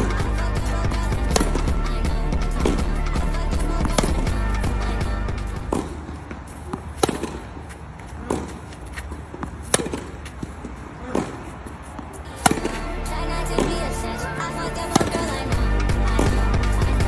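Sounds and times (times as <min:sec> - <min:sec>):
racket hitting tennis ball: 0:00.0 - 0:12.9, 0:13.6 - 0:14.0, 0:14.9 - 0:16.5.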